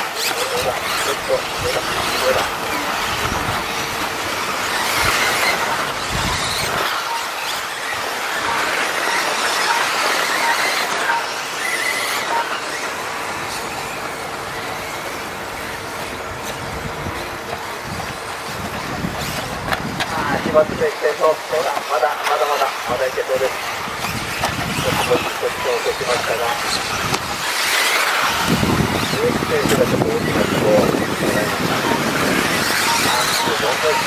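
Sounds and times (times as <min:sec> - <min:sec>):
rc car motors whining: 0:00.0 - 0:34.0.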